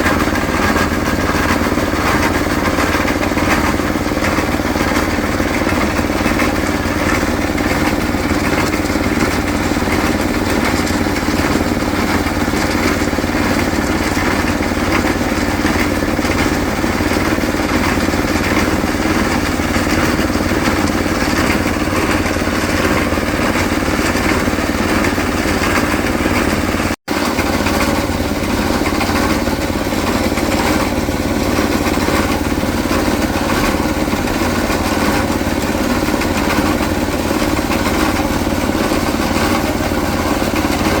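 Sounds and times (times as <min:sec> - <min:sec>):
concrete mixer engine running: 0:00.0 - 0:41.0.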